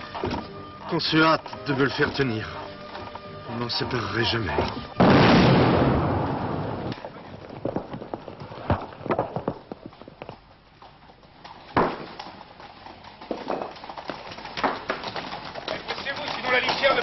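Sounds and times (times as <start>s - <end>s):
horse hooves clopping: 0.0s - 5.0s, 6.4s - 17.0s.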